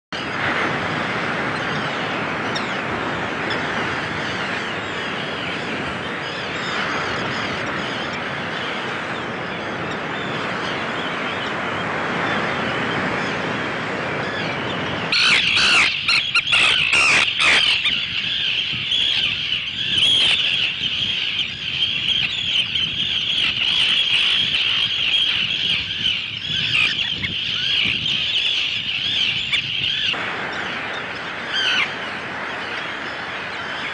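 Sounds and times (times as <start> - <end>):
terns calling in a colony: 0.2 - 33.9.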